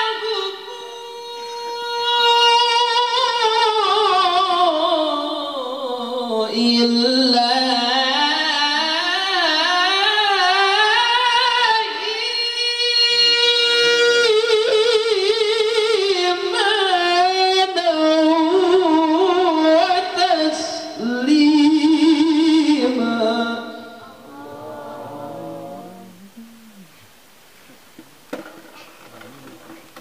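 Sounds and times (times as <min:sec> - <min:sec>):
man reciting in melodic chant: 0:00.0 - 0:27.0.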